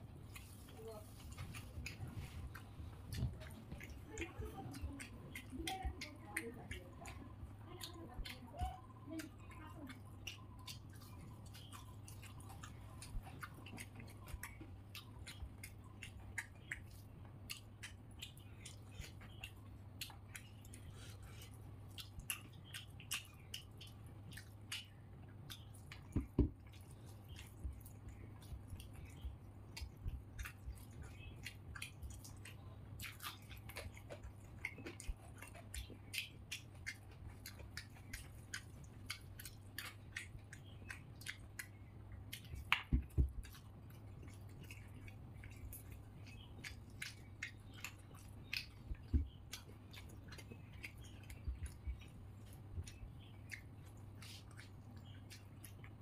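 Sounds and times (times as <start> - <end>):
person chewing with wet smacking: 0.0 - 56.0
steady low hum: 0.0 - 56.0.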